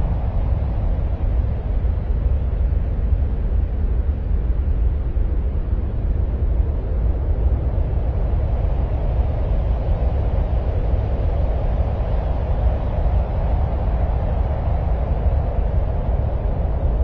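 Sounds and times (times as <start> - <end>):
steady deep ambient noise: 0.0 - 17.0.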